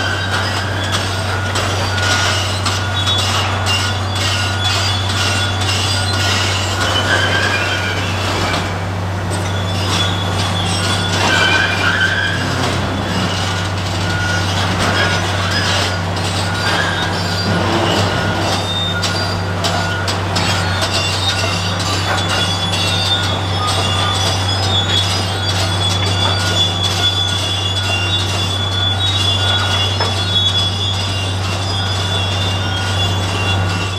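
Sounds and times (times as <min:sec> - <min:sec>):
diesel engine droning: 0:00.0 - 0:33.9
metallic squeals and clanks: 0:00.0 - 0:33.9.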